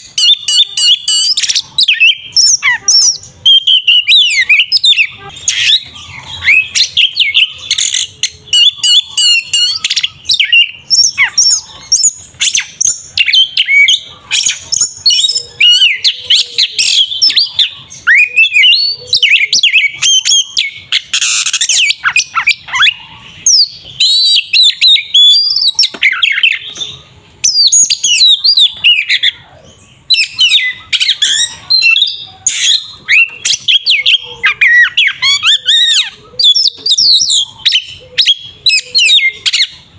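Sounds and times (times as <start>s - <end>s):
songbird singing whistles and trills: 0.0s - 39.9s.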